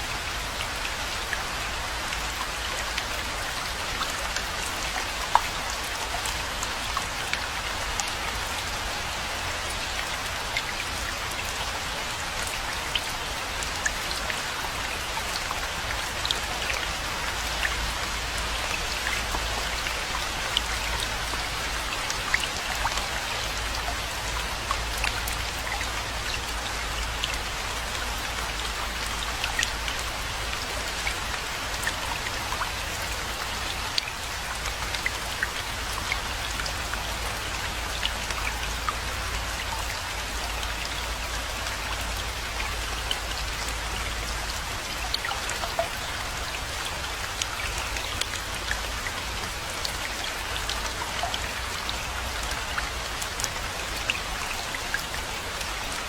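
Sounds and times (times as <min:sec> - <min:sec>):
raindrops ticking on surfaces: 0:00.0 - 0:56.0
steady rain rumble: 0:00.0 - 0:56.0.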